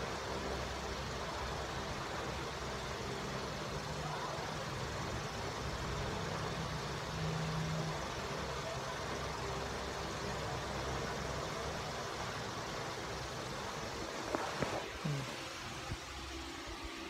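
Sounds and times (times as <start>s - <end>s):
even hiss: 0.0s - 17.0s.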